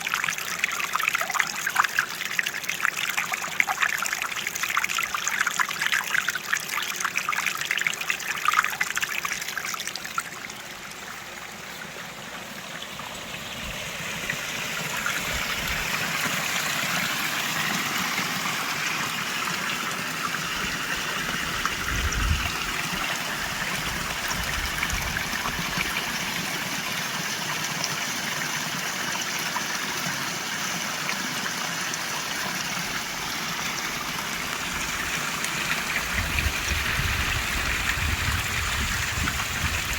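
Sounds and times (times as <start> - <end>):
rush of falling water: 0.0 - 39.9
water splashing and trickling: 0.0 - 39.9.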